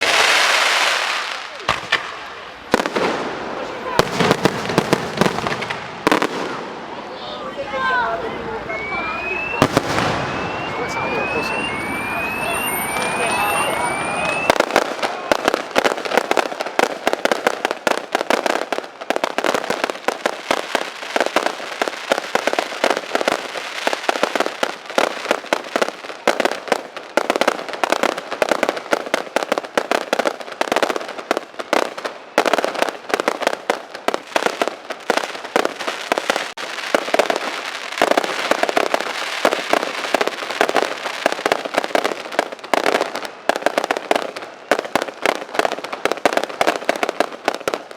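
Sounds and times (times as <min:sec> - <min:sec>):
rapid firecracker bangs: 0:00.0 - 0:06.9, 0:09.5 - 0:47.9.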